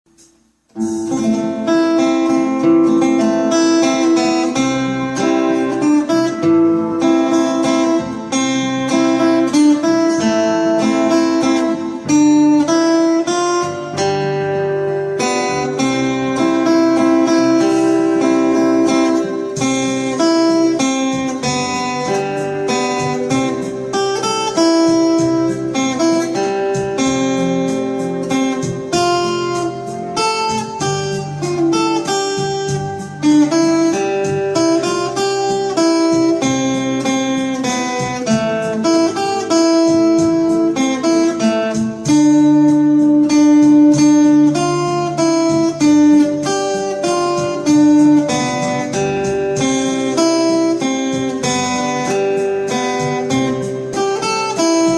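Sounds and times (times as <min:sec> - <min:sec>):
acoustic guitar solo: 0:00.1 - 0:54.9.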